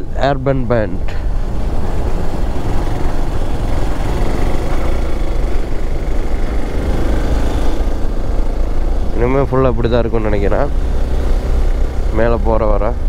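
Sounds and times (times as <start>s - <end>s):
motorcycle engine running: 0.7s - 13.0s.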